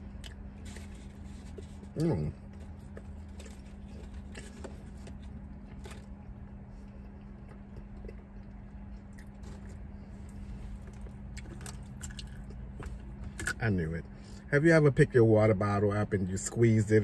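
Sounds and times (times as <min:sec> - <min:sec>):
person chewing fries: 0:00.0 - 0:13.6
low hum: 0:00.0 - 0:17.0.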